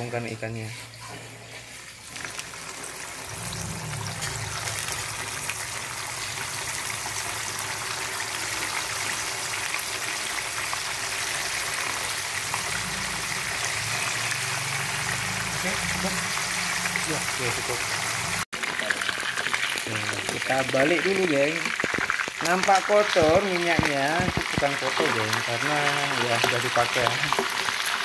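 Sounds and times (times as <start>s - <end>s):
oil crackling spatter: 0.0s - 28.0s
fish sizzling in hot oil: 0.1s - 28.0s.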